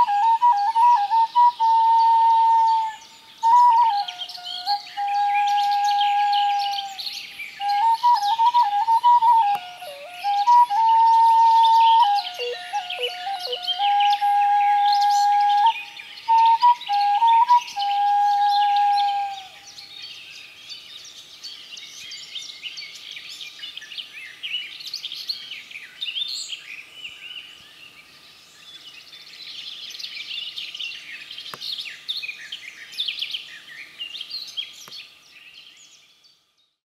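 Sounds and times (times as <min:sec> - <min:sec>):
songbirds chorus: 0:00.0 - 0:36.8.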